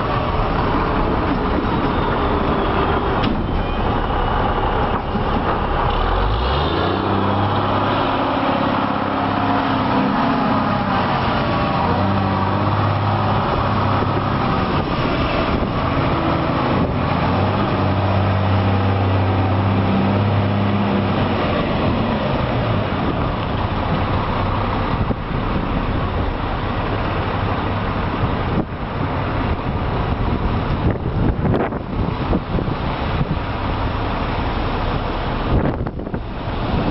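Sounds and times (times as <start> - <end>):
road noise: 0.0 - 36.9
truck engine drone: 0.0 - 36.9.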